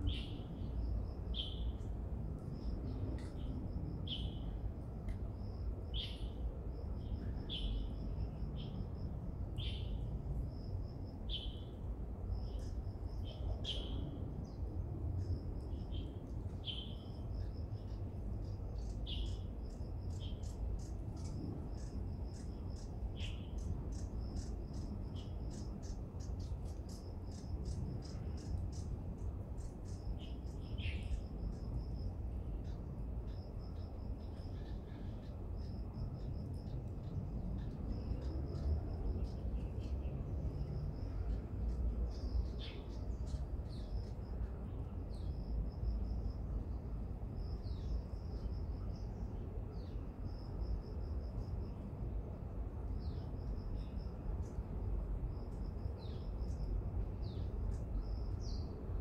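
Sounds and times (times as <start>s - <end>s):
pulsing insect trill: 5.3s - 59.0s.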